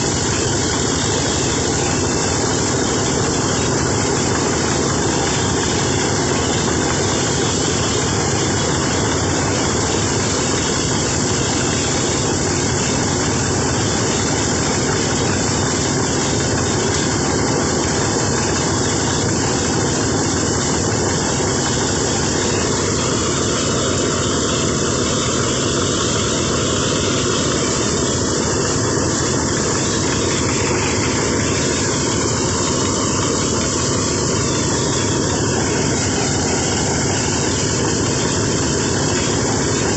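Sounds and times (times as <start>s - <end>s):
rice thresher engine running: 0.0s - 39.9s.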